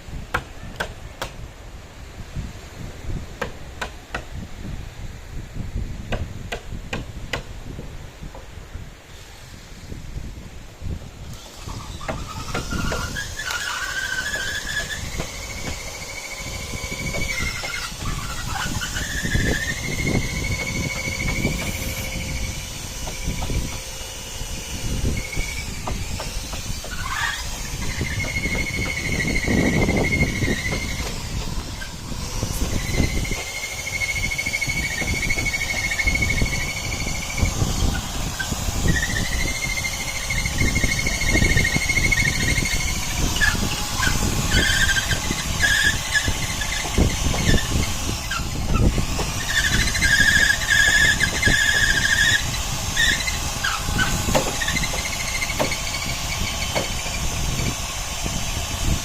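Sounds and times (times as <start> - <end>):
power tool whining: 11.0 - 59.0.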